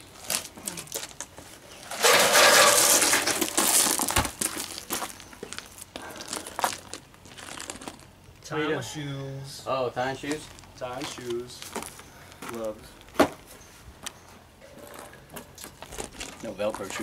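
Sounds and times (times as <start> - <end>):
footsteps crunching on gravel: 0.0 - 8.3, 10.2 - 14.2, 14.8 - 17.0.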